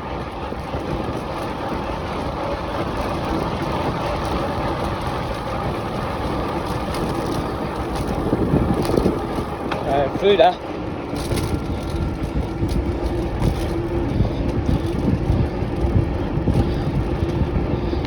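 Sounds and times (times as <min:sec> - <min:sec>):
bicycle road noise: 0:00.0 - 0:18.0
wind rushing over microphone: 0:00.0 - 0:18.0.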